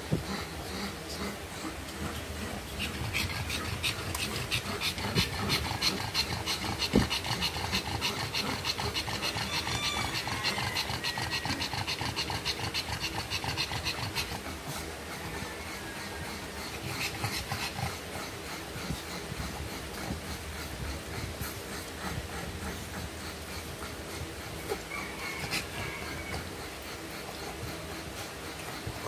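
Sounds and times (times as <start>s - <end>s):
dog panting rapidly: 0.0s - 29.0s.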